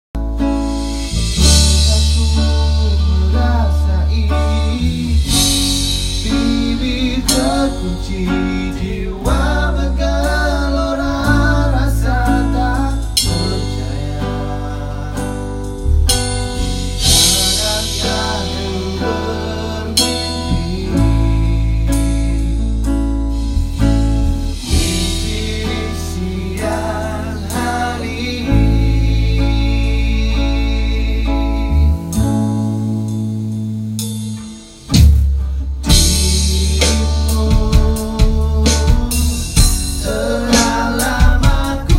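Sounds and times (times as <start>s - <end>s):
band playing a song: 0.2s - 41.9s
deep bass line: 0.2s - 41.9s
plucked guitar: 0.2s - 41.9s
person singing: 1.3s - 16.0s, 16.9s - 23.0s, 24.5s - 32.6s, 35.8s - 41.9s.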